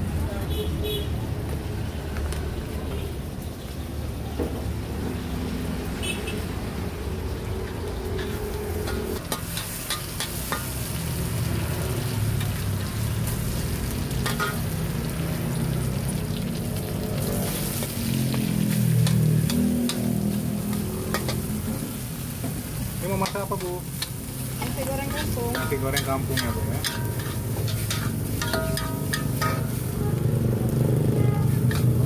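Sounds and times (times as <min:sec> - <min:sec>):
rice sizzling in a wok: 0:05.8 - 0:32.0.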